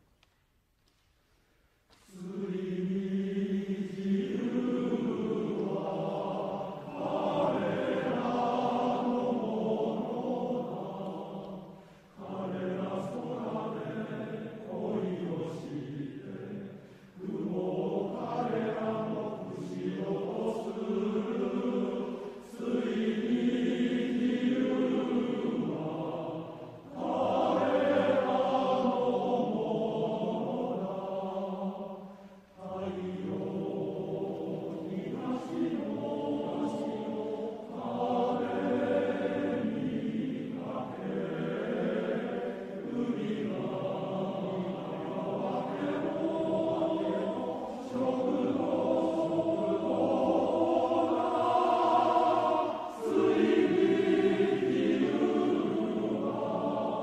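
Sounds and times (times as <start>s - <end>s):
men's choir singing: 2.0s - 57.0s.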